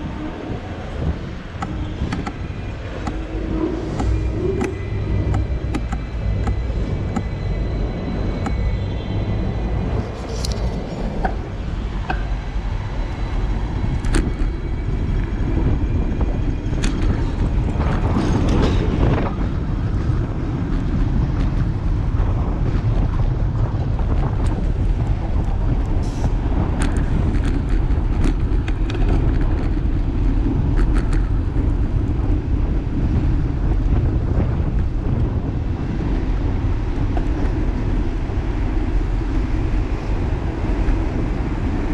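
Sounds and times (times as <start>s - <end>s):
road rumble: 0.0s - 41.9s
wind buffeting camera: 0.0s - 41.9s.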